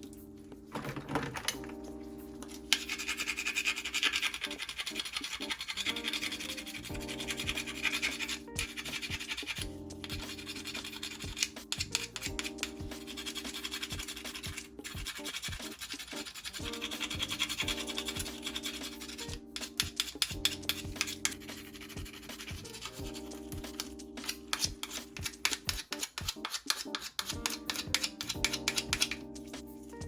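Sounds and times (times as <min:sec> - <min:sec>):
background music: 0:00.0 - 0:30.0
mussel shells scrubbed rasping: 0:02.5 - 0:29.2.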